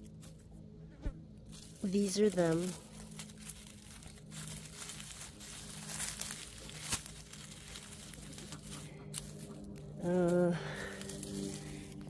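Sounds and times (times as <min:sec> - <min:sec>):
dry garlic leaves crackling: 0:01.4 - 0:12.0.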